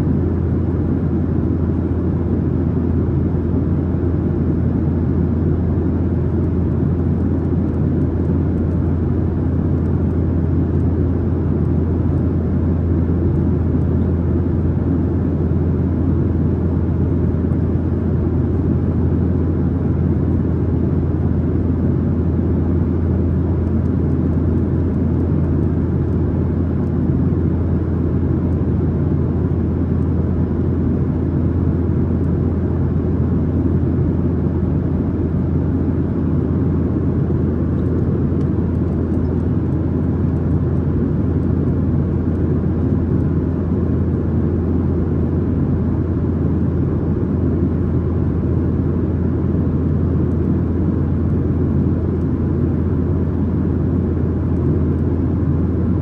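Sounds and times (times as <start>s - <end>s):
jet engines droning: 0.0s - 56.0s.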